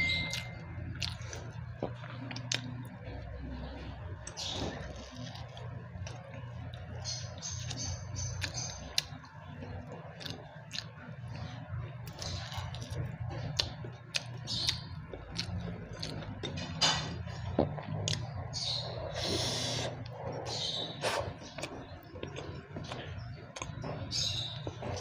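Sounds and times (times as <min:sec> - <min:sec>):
low hum: 0:00.0 - 0:25.0
person chewing food: 0:00.0 - 0:25.0.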